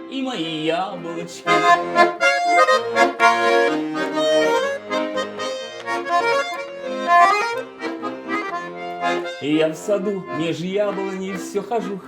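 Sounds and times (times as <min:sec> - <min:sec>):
button accordion playing folk tune: 0:00.0 - 0:12.0.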